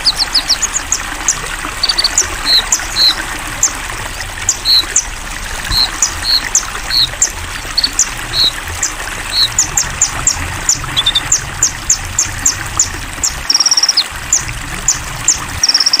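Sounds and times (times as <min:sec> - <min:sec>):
flowing water: 0:00.0 - 0:16.0
songbirds chirping: 0:00.0 - 0:16.0.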